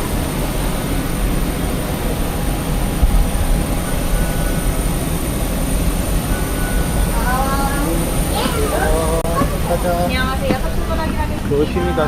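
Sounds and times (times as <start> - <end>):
constant high whine: 0.0 - 12.0
jet airliner rumble: 0.0 - 12.0.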